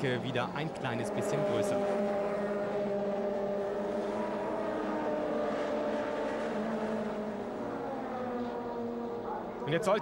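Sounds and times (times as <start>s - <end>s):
race car engines running hard: 0.0s - 10.0s.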